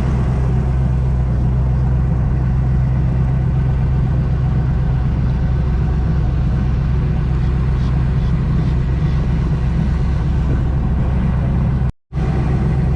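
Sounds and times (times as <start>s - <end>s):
airboat engine droning: 0.0s - 12.9s.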